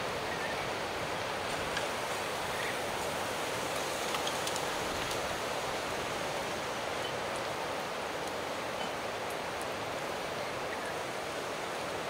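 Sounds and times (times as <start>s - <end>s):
rushing outdoor background noise: 0.0s - 12.0s.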